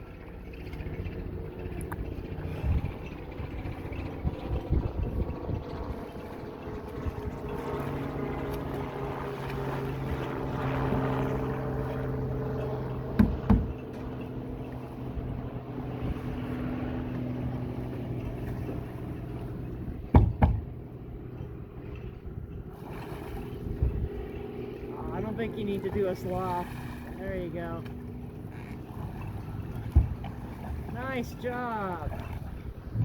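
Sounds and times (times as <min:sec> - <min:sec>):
motorboat engine running: 0:00.0 - 0:33.0
water and wind noise: 0:00.0 - 0:33.0.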